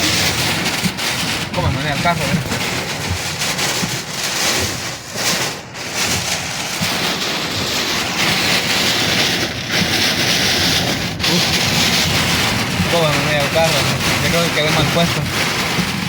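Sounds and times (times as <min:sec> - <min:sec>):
heavy rain on a car: 0:00.0 - 0:16.0
storm wind: 0:00.0 - 0:16.0.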